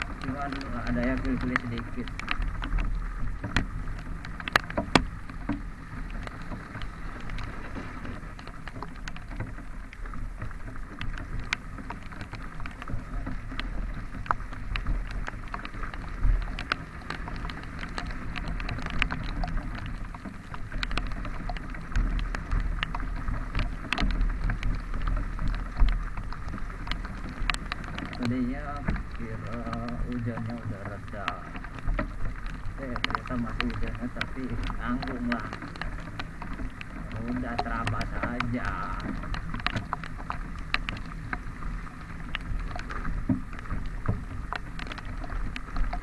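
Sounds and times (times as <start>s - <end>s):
sharp ticks and knocks: 0.0s - 46.0s
wind: 0.0s - 46.0s.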